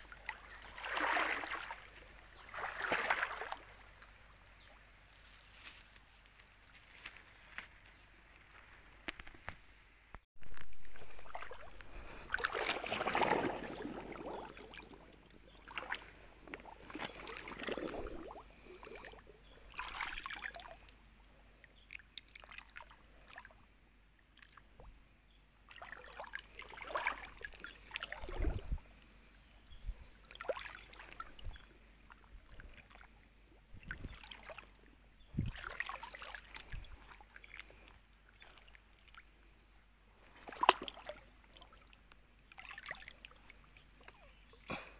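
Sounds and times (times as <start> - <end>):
stream water splashing: 0.0 - 7.7, 10.4 - 21.0, 21.9 - 23.5, 25.6 - 29.0, 30.2 - 44.9.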